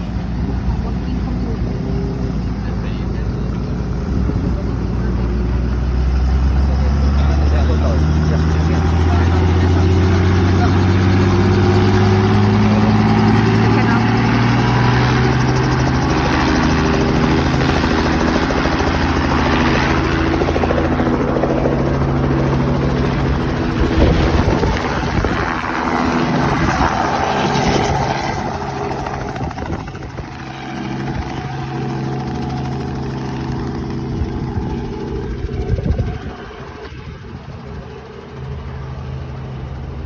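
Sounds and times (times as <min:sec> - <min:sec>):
helicopter engine and rotor: 0:00.0 - 0:40.0.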